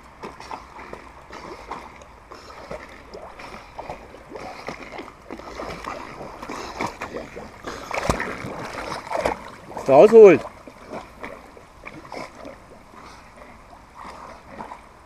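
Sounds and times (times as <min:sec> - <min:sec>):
dog swimming and splashing: 0:00.0 - 0:15.0.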